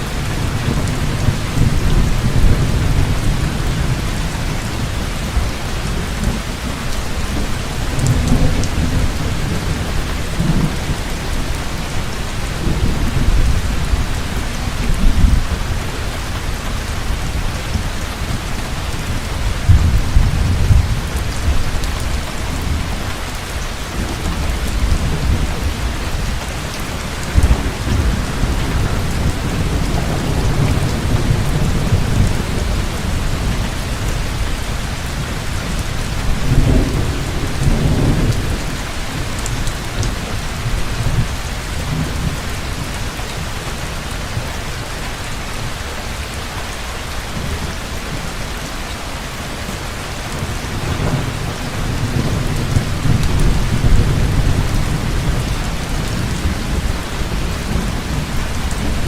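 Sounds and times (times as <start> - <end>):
thunder rumbling: 0.0 - 43.7, 50.2 - 59.0
heavy rain pouring: 0.0 - 59.0.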